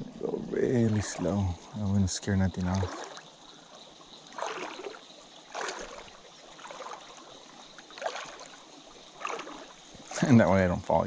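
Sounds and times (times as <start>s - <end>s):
river water swishing: 0.0s - 10.8s.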